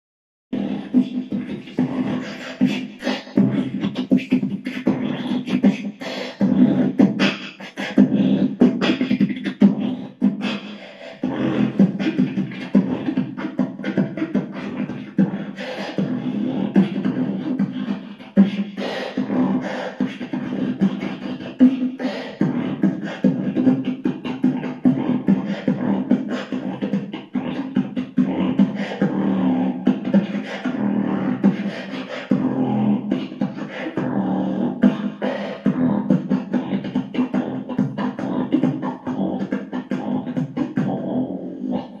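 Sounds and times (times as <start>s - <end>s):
person beatboxing: 0.5s - 42.0s.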